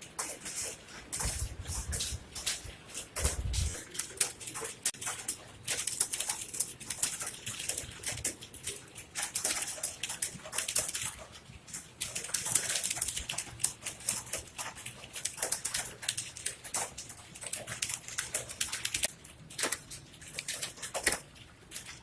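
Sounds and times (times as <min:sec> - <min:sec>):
fast keyboard typing: 0:00.0 - 0:22.0.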